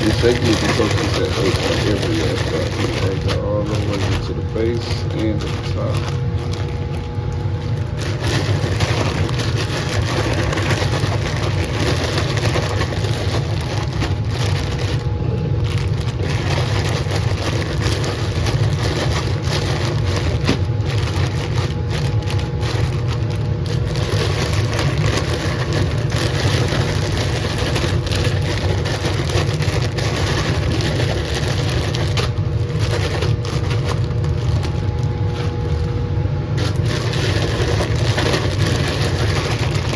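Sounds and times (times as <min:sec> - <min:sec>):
fan running with low roar: 0:00.0 - 0:39.9
plastic bags crinkling: 0:00.0 - 0:39.9.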